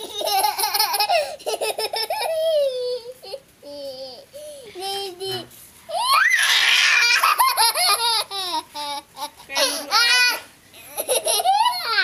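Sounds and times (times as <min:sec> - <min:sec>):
little girl laughing: 0:00.0 - 0:12.0.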